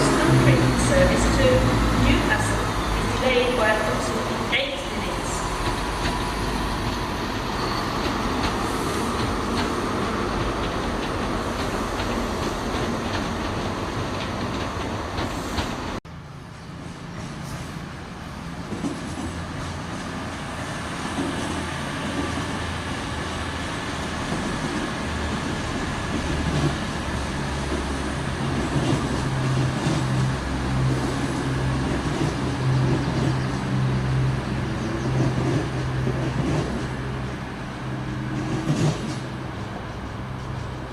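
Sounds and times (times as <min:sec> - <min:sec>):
train moving along track: 0:00.0 - 0:40.9.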